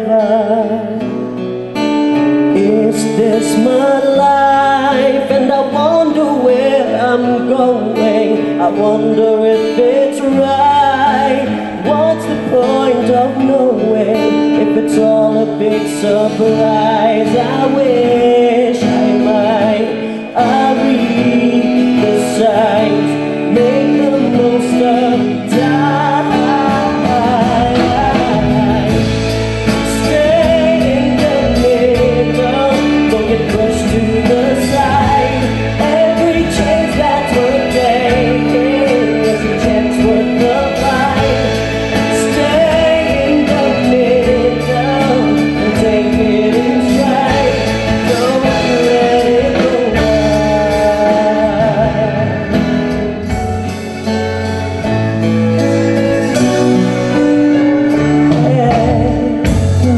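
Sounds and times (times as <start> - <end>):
live band playing: 0.0 - 59.9
man singing pop song: 0.0 - 59.9.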